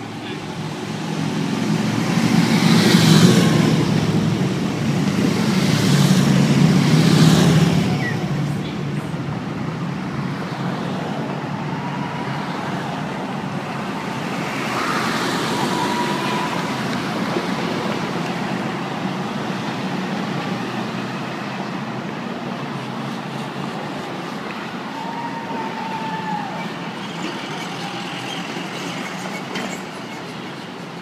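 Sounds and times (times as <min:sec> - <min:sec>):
vehicles driving past slowly: 0:00.0 - 0:31.0.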